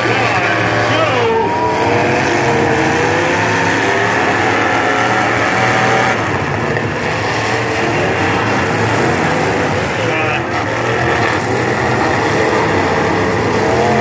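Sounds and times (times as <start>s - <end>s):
car engines revving hard: 0.0s - 14.0s.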